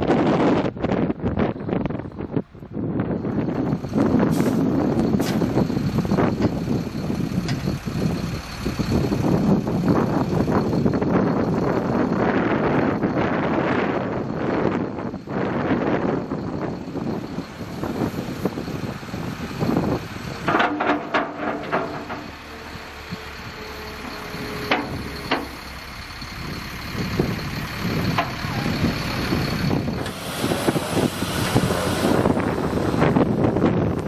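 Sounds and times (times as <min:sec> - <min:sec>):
heavy vehicle running: 0:00.0 - 0:34.0
wind buffeting microphone: 0:00.0 - 0:34.0.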